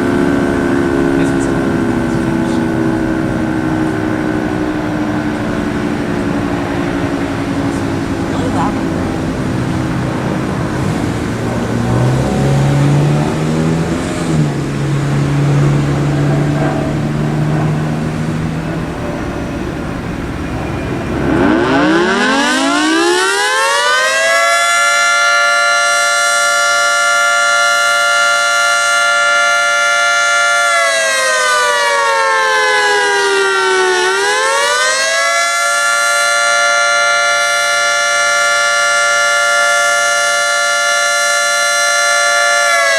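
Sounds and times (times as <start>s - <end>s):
three-tone warning siren: 0.0s - 42.9s.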